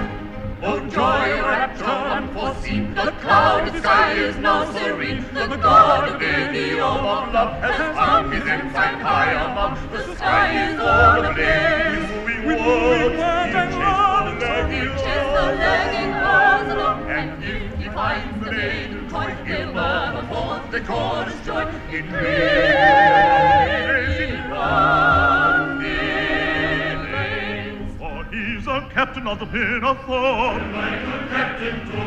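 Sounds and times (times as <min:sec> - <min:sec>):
choir singing operatically: 0:00.0 - 0:32.0.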